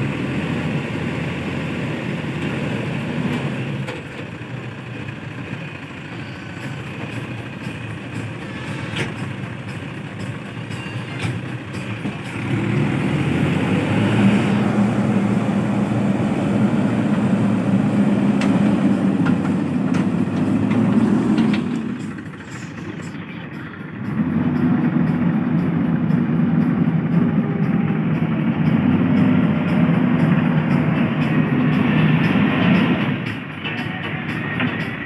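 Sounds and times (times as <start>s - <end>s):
heavy diesel engine working: 0.0s - 35.0s.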